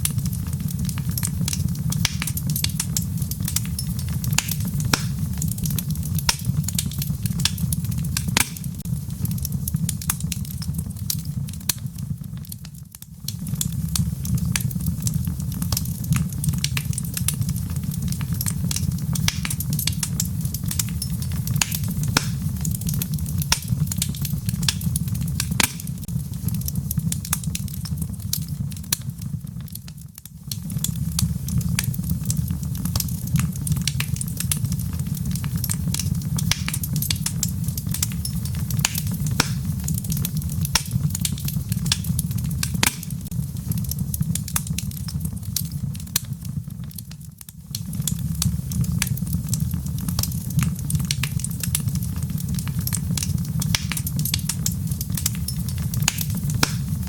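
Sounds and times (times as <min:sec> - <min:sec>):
low rumble of fire: 0:00.0 - 0:57.0
wood fire crackling: 0:00.0 - 0:57.0.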